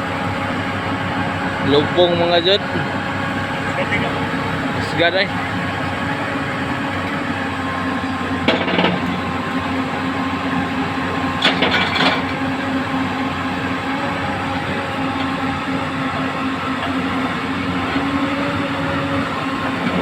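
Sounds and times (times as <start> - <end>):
backhoe engine idling: 0.0 - 20.0.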